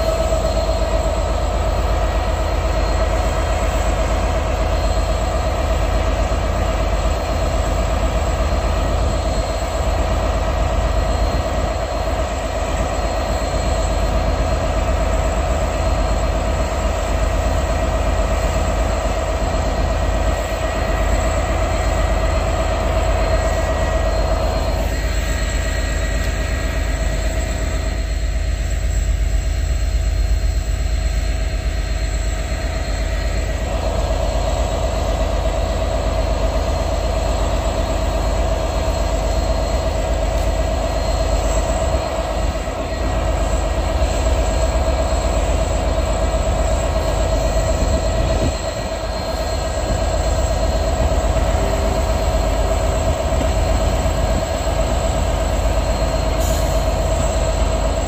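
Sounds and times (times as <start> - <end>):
diesel locomotive engine rumbling: 0.0 - 58.0
mid-pitched whine: 0.0 - 58.0.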